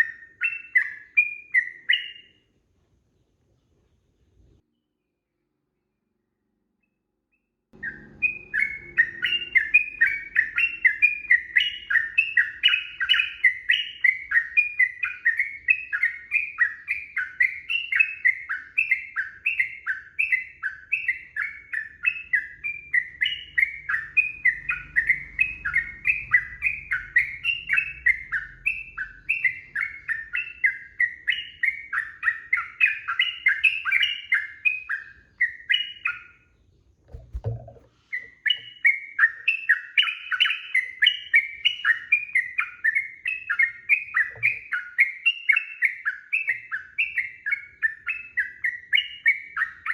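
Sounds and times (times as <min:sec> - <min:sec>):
bird chattering song: 0:00.0 - 0:02.5, 0:07.8 - 0:49.9.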